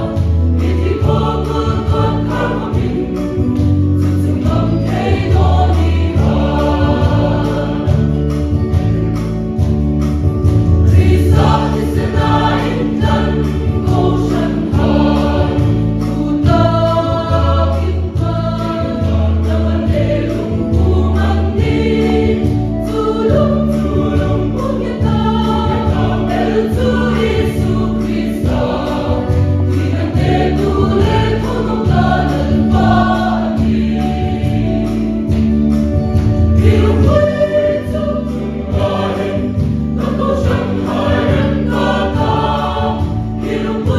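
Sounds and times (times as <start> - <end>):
choir singing: 0.0 - 8.7, 10.6 - 43.9
instrumental accompaniment: 0.0 - 43.9
steady bass pattern: 0.0 - 43.9.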